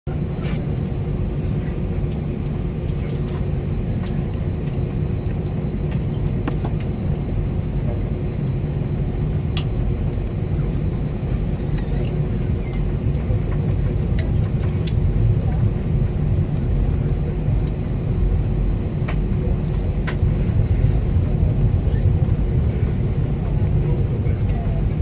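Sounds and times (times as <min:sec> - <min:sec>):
airplane cabin rumble: 0:00.1 - 0:25.0
constant hum: 0:00.1 - 0:25.0.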